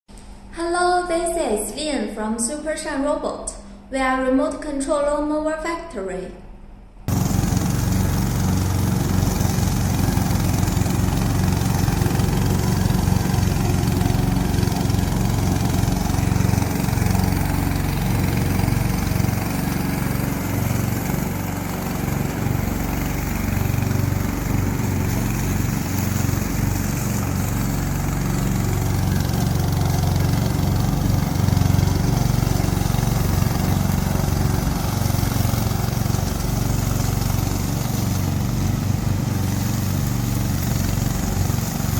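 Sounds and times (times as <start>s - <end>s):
lawn mower engine running: 7.1s - 41.9s.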